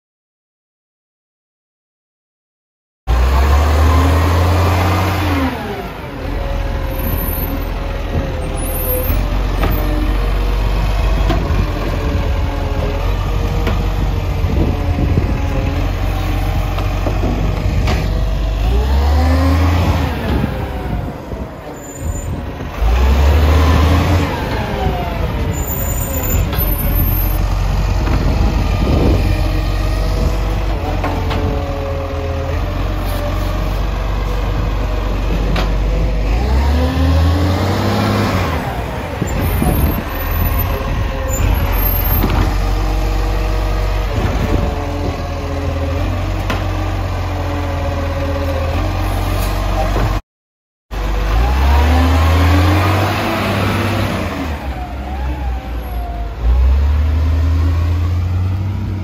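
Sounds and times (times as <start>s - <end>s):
garbage truck diesel engine revving: 3.1s - 50.2s, 50.9s - 59.0s.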